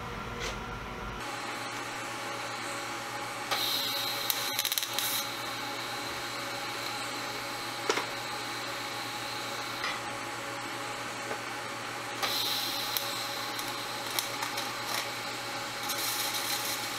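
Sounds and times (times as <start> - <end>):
welding machine hum: 0.0 - 16.9
welding arc crackling and hissing: 1.2 - 16.9.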